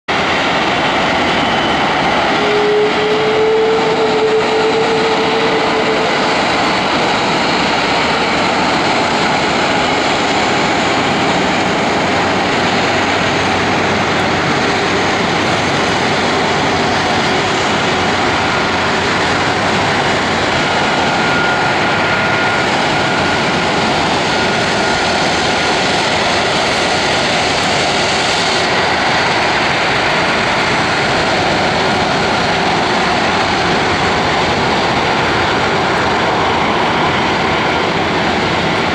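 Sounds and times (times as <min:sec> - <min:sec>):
jet engines running: 0:00.1 - 0:38.9.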